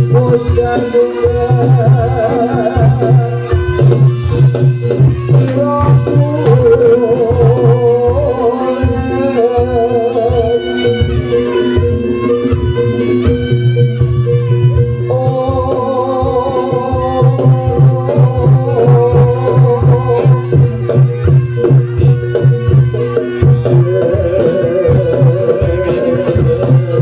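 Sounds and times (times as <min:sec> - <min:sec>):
drum beat: 0:00.0 - 0:27.0
sustained melody notes: 0:00.0 - 0:27.0.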